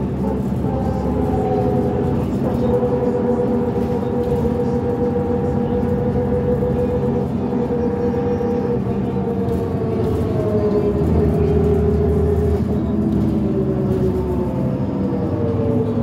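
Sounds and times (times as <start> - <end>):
bus engine rumble: 0.0 - 16.0
transmission whine: 0.0 - 16.0.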